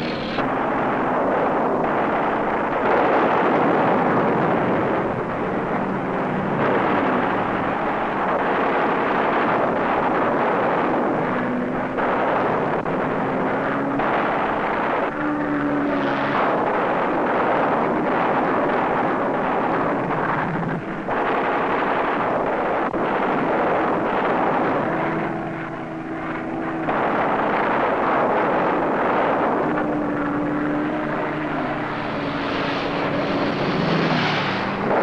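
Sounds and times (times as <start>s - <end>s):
aircraft engine roar: 0.0s - 35.0s.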